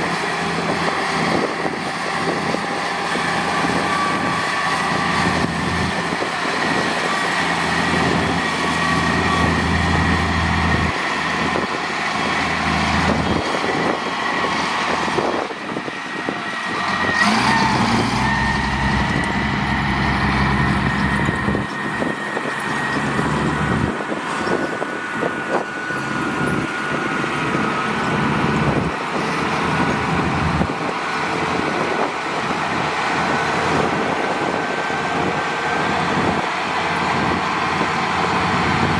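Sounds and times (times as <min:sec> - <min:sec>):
diesel engines of heavy machinery: 0:00.0 - 0:38.9.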